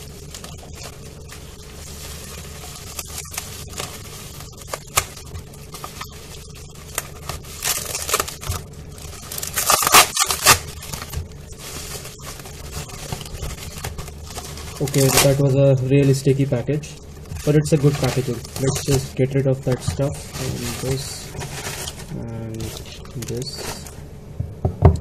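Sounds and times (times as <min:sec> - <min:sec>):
bubble wrap crinkling: 0:00.0 - 0:24.1
sticky wrap tearing: 0:01.9 - 0:24.0.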